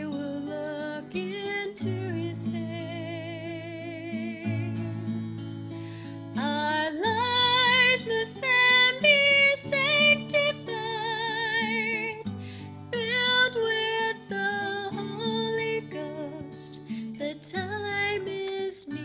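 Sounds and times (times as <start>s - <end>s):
woman singing with vibrato: 0.0s - 5.6s, 6.4s - 19.0s
strummed acoustic guitar: 0.0s - 19.0s.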